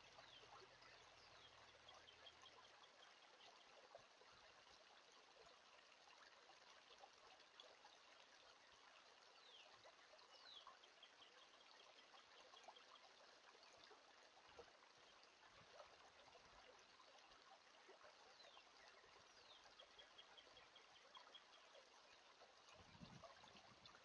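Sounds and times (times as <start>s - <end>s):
creek water trickling: 0.0s - 24.0s.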